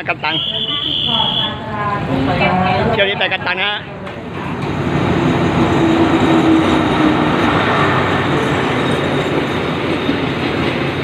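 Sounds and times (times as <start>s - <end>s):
locomotive passing: 0.0s - 11.0s
train coaches rumbling on rails: 0.0s - 11.0s.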